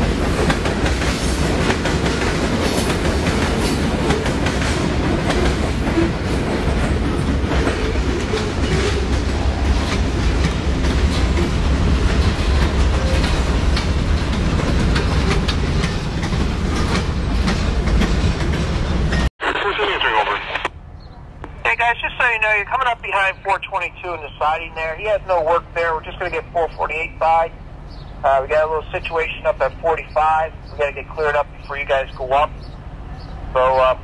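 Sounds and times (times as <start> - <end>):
freight train rumbling: 0.0 - 19.3, 20.8 - 34.0.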